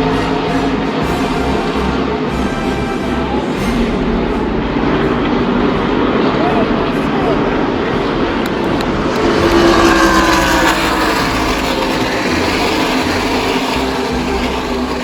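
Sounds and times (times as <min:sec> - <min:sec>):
race truck engines: 0:00.0 - 0:15.0.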